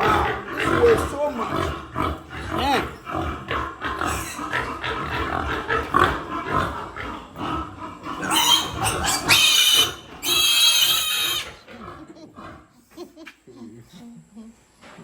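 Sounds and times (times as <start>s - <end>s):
piglets grunting and squealing: 0.0s - 15.0s.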